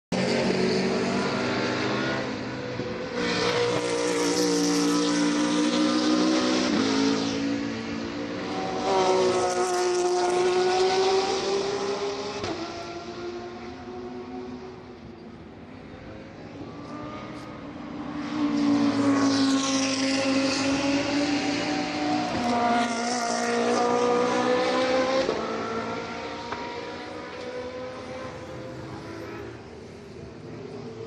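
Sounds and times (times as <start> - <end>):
race cars passing at high revs: 0.1 - 31.0.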